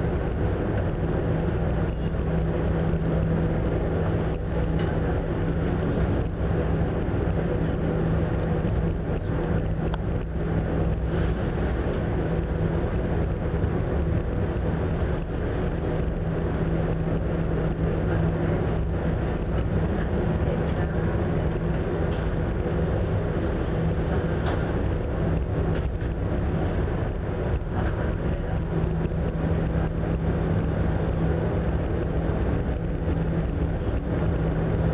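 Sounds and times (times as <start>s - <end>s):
ship engine low hum: 0.0s - 34.9s.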